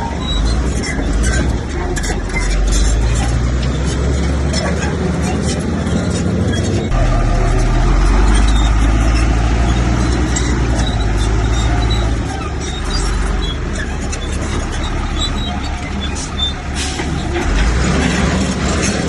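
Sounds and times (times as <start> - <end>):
bulldozer diesel engine: 0.0 - 19.0.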